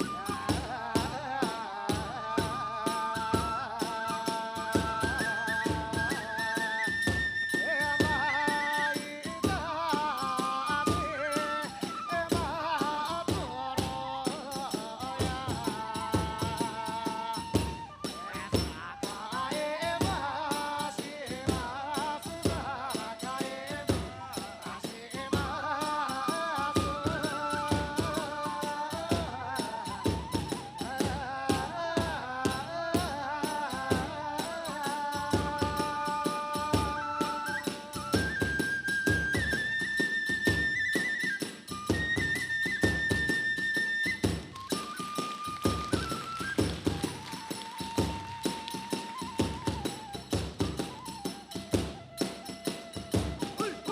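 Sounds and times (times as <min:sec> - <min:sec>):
bamboo flute melody: 0:00.0 - 0:53.9
fast drum strokes: 0:00.0 - 0:53.9.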